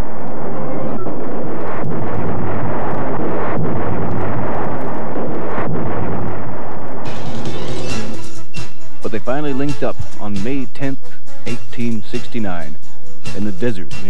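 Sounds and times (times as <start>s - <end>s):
rumble of explosions: 0.0s - 13.8s.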